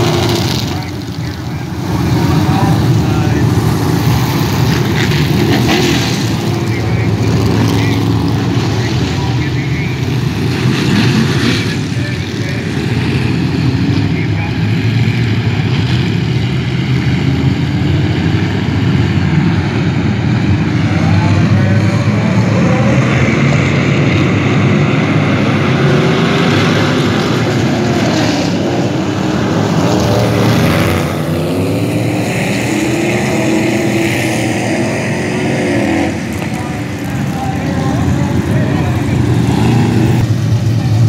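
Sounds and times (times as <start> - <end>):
race car engines: 0.0 - 41.0.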